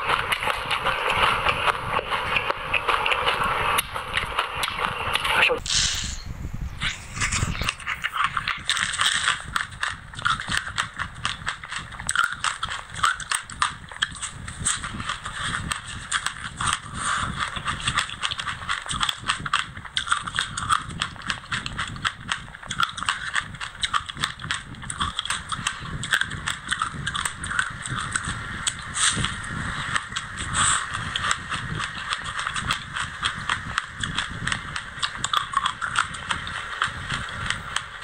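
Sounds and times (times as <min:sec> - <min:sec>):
crunchy chewing: 0:00.0 - 0:06.0, 0:06.8 - 0:38.0.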